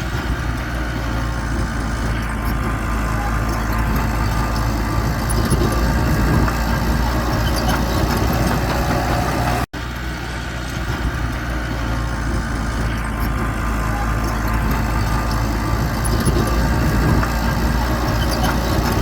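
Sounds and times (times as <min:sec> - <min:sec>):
diesel engine running at low revs: 0:00.0 - 0:19.0.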